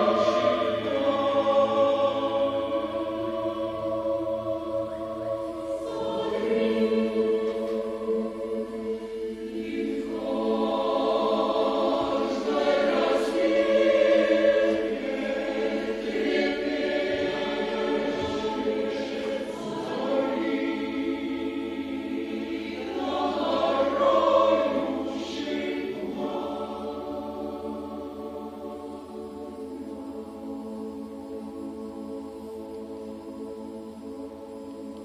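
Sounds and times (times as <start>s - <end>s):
mixed choir singing unaccompanied: 0.0s - 35.0s.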